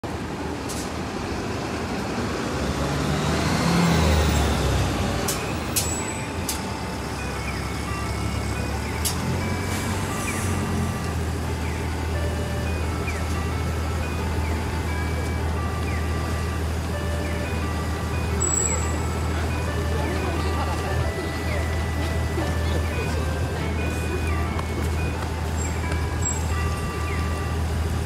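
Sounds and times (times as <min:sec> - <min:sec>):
heavy street traffic: 0:00.0 - 0:28.0
bus pulling away: 0:00.1 - 0:28.0
electronic pedestrian signal melody: 0:03.8 - 0:28.0.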